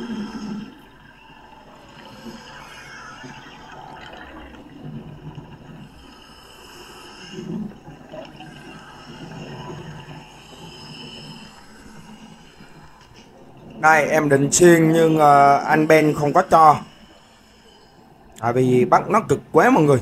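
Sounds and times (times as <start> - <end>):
watery hiss: 0.0 - 18.4
underwater bubbling of exhaled air: 0.0 - 19.6.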